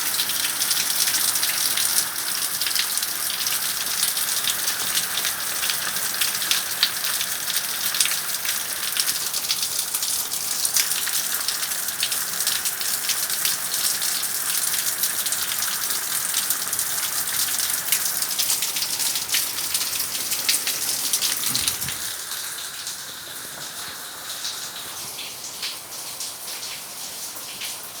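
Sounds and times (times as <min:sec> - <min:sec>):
heavy rain: 0:00.0 - 0:28.0
water splashing from gutter: 0:00.0 - 0:28.0.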